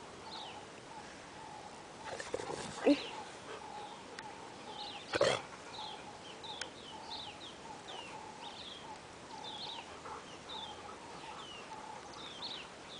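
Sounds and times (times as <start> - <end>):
birds chirping: 0.1 - 12.9.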